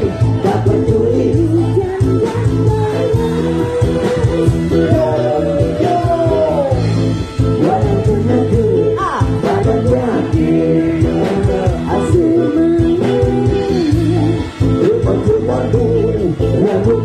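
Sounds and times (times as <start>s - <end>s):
electric guitar: 0.0s - 17.0s
steady drum beat: 0.0s - 17.0s
voices singing into microphones: 0.0s - 17.0s.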